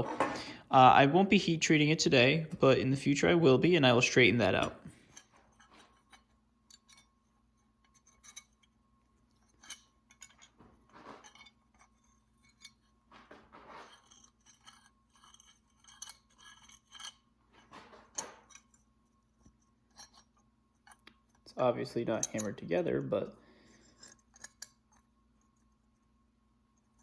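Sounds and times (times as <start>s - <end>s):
metallic clinks and scrapes: 4.5s - 27.0s.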